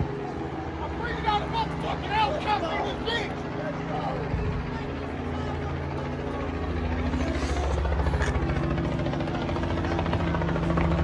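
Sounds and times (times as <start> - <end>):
helicopter rotor beating: 0.0 - 11.0
low engine drone: 0.0 - 11.0.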